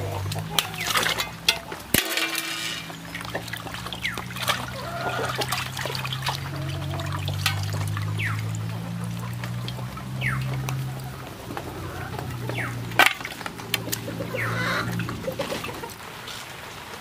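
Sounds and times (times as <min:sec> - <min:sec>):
hands rinsing fish: 0:00.0 - 0:16.4
water sloshing in a metal basin: 0:00.0 - 0:16.6.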